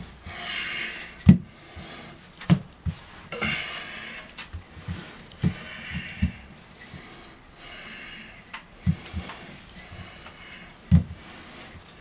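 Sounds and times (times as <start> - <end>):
loud breaths: 0.0 - 12.0.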